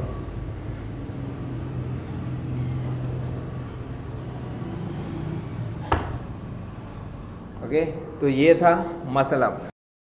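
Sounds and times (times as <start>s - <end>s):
low mechanical hum: 0.0s - 9.7s.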